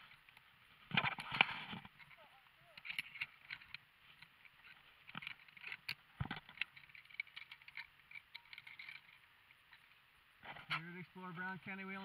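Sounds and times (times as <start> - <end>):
harness gear clinking and rattling: 0.0 - 10.9.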